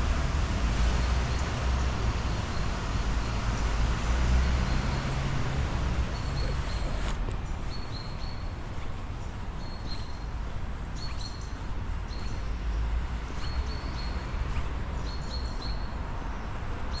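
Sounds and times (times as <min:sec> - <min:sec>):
birds chirping: 0:01.0 - 0:17.0.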